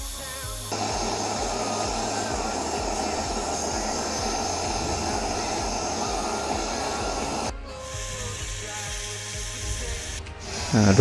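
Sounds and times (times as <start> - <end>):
torch flame rushing: 0.7 - 11.0.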